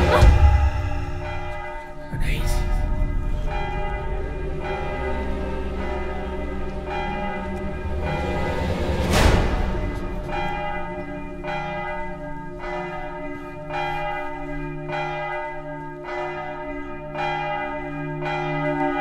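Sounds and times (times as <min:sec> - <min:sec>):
large bell tolling: 0:00.0 - 0:19.0.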